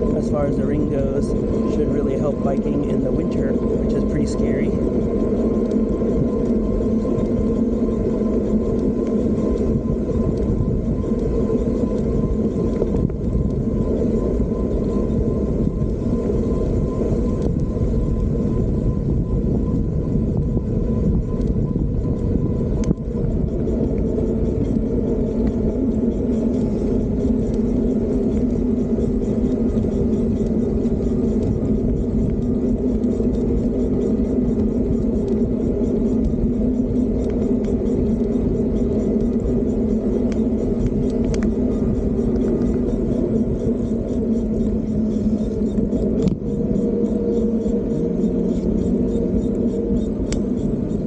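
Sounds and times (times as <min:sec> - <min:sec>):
road rumble: 0:00.0 - 0:51.0
steady hum: 0:00.0 - 0:51.0
wind buffeting microphone: 0:00.0 - 0:51.0.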